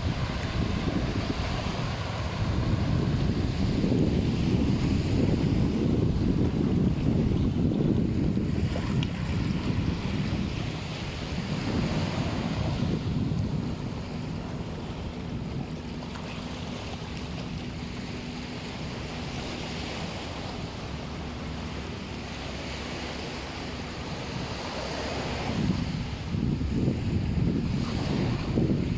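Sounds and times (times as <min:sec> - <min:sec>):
sea waves on sandy beach: 0:00.0 - 0:28.9
wind buffeting microphone: 0:00.0 - 0:28.9.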